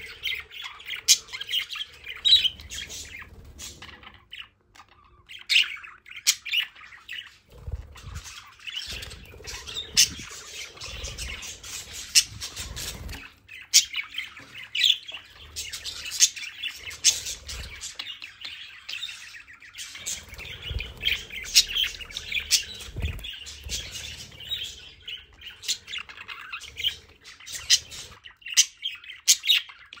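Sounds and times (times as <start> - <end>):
budgerigars chattering: 0.0 - 30.0.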